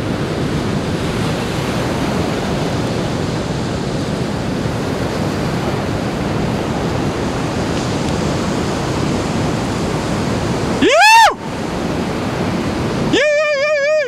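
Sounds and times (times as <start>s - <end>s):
breaking surf: 0.0s - 14.0s
wind rushing over microphone: 0.0s - 14.0s.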